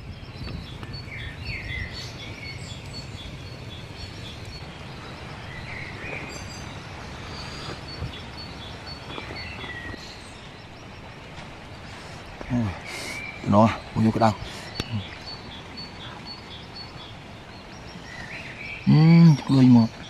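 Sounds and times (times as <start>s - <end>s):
birds chirping: 0.0s - 20.0s
outdoor background noise: 0.0s - 20.0s.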